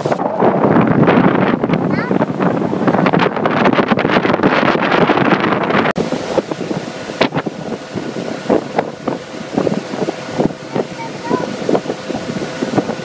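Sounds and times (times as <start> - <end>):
boat motor running: 0.0 - 13.0
water noise: 0.0 - 13.0
wind buffeting microphone: 0.0 - 13.0.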